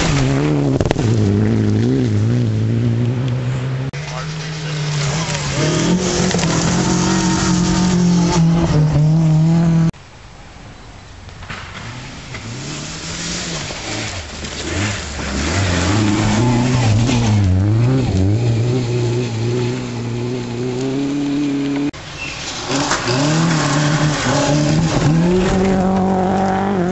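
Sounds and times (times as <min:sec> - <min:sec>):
car accelerating hard: 0:00.0 - 0:10.0, 0:12.4 - 0:21.9, 0:22.6 - 0:26.9
rally car engine revving: 0:00.0 - 0:10.0, 0:11.8 - 0:26.9.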